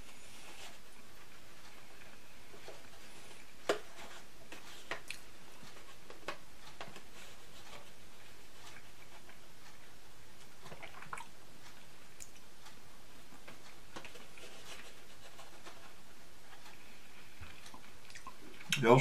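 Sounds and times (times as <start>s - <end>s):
steady low hiss: 0.0s - 19.0s
soft chewing: 0.1s - 18.8s.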